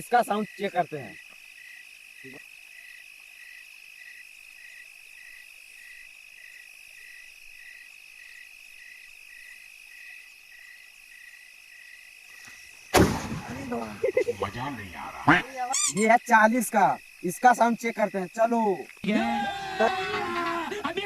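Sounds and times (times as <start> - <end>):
crickets trilling: 0.0 - 21.0
frogs calling: 0.0 - 21.0.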